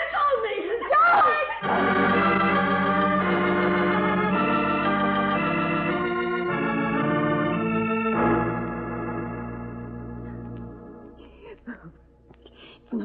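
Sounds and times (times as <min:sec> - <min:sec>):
organ playing dramatic chords: 0:01.6 - 0:12.2.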